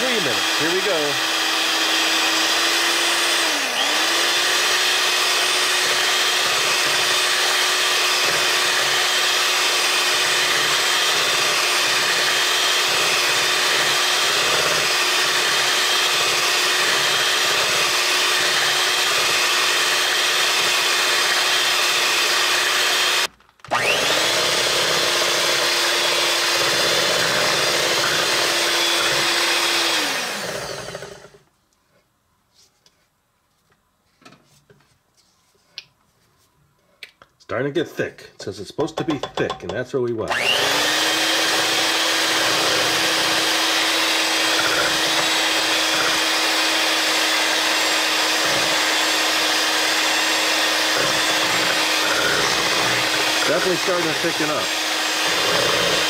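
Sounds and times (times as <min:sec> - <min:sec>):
electric mixer motor whine: 0:00.0 - 0:31.4, 0:40.3 - 0:56.0.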